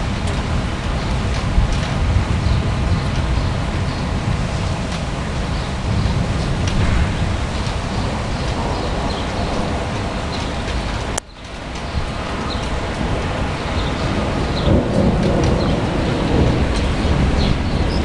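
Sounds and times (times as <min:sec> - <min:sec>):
rain: 0:00.0 - 0:18.0
wind: 0:00.0 - 0:18.0.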